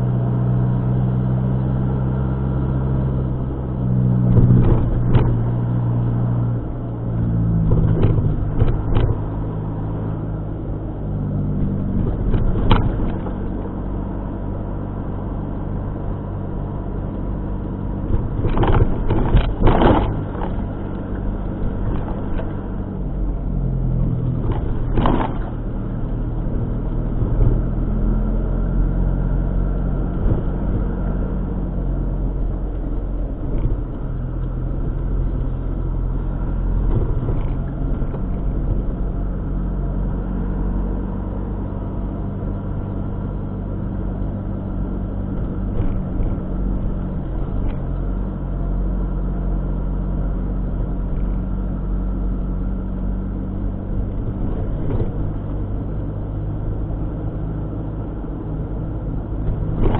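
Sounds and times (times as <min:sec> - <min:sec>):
car engine hum: 0:00.0 - 0:59.9
road noise: 0:00.0 - 0:59.9.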